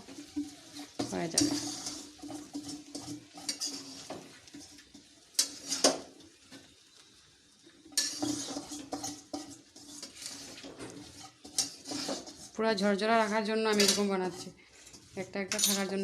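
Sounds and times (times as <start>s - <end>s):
spatula scraping and knocking a pan: 0.0s - 6.7s, 7.9s - 16.0s.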